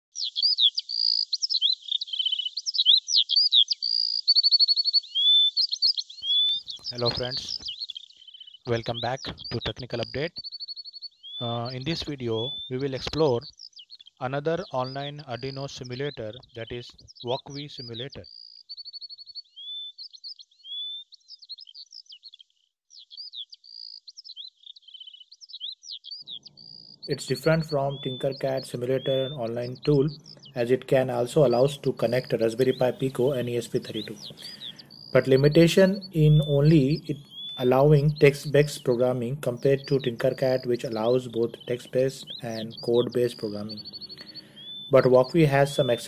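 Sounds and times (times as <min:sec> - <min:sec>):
songbird singing: 0:00.0 - 0:46.0
bird trills: 0:00.1 - 0:46.0.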